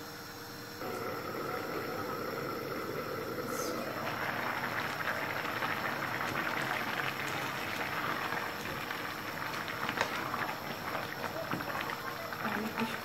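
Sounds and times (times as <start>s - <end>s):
pot boiling with bubbling: 0.0s - 13.0s.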